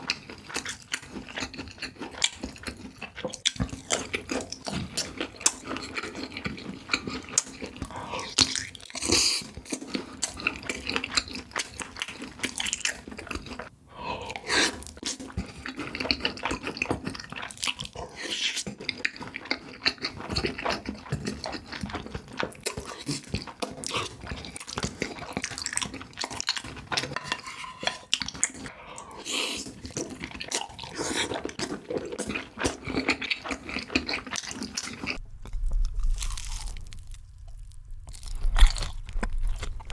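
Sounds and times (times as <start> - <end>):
wet chewing and smacking: 0.0 - 13.7, 14.3 - 39.9.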